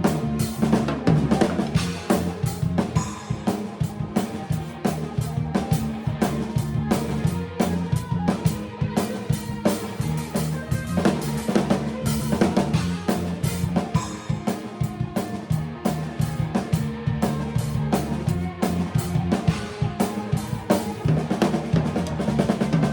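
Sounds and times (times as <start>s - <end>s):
band music with held notes: 0.0s - 22.9s
rock drum beat: 0.0s - 22.9s.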